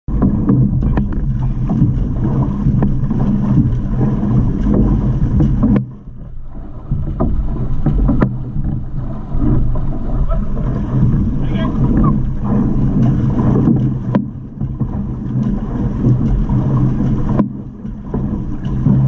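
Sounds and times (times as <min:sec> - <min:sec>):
paddle strokes knocking: 0:00.1 - 0:19.0
water rushing along canoe hull: 0:00.1 - 0:19.0
wind buffeting microphone: 0:00.1 - 0:19.0.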